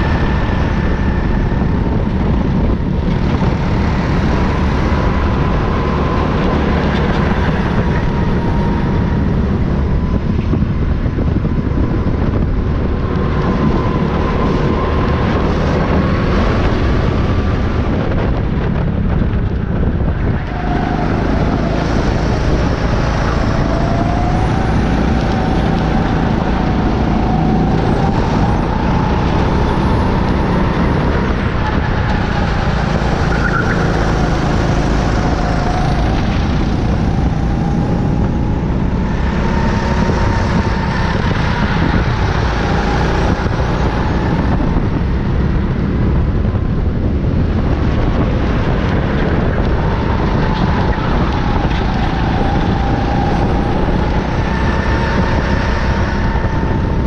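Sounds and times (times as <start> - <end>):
go-kart engine racing: 0.0 - 57.0
wind and road noise: 0.0 - 57.0.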